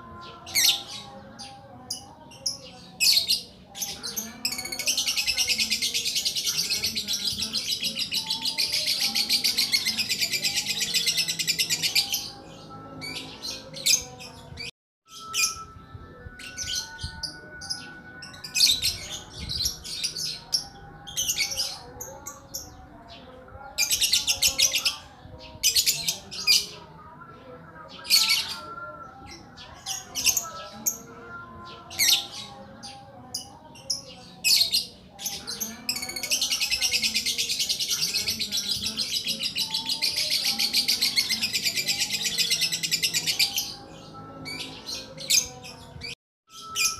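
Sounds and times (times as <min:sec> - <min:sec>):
songbird chirping phrases: 0:00.0 - 0:46.9.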